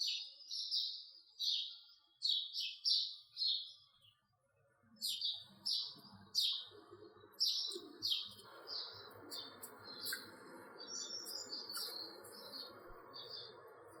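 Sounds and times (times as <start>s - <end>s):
sparrow chirping: 0.0s - 4.1s, 5.0s - 14.0s.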